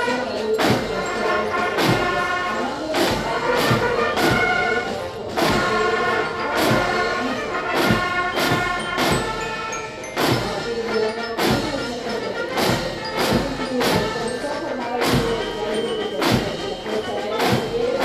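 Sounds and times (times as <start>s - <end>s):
military band playing a march: 0.0s - 18.0s.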